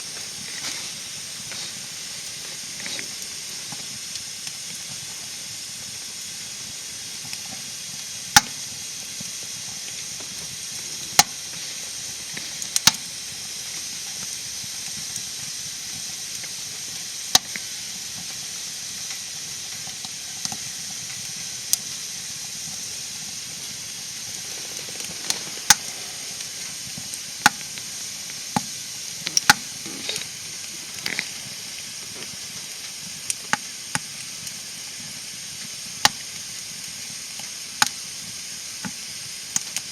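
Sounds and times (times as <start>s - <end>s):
wood fire crackling: 0.0s - 18.4s, 19.0s - 38.2s.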